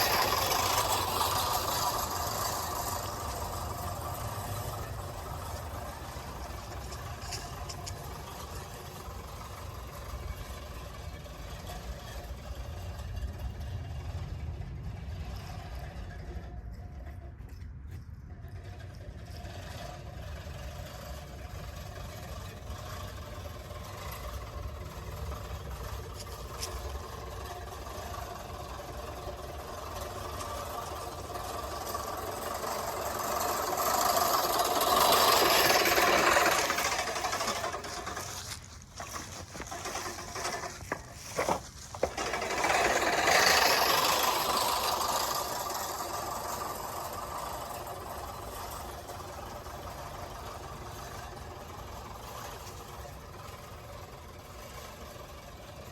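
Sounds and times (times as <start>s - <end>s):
reel mower blades whirring: 0.0s - 55.9s.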